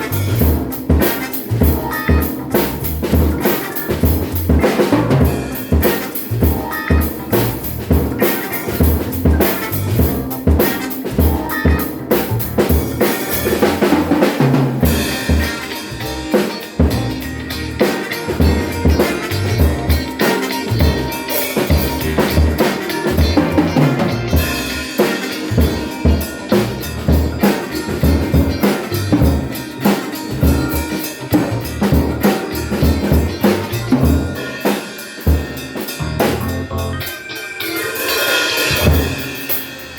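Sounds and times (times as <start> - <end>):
cymbals ringing: 0.0 - 39.9.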